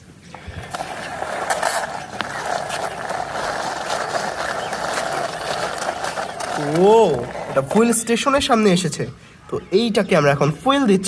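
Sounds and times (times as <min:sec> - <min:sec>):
toy wheels rolling on rough surface: 0:00.0 - 0:09.2.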